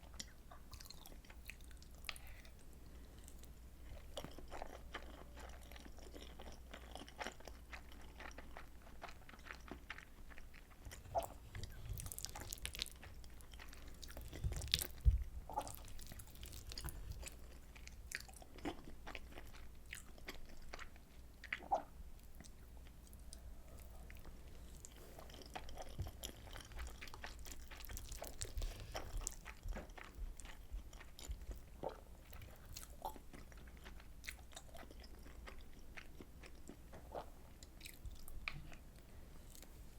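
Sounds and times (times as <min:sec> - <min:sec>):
close chewing with wet mouth clicks: 0:00.0 - 0:02.6, 0:03.2 - 0:38.8.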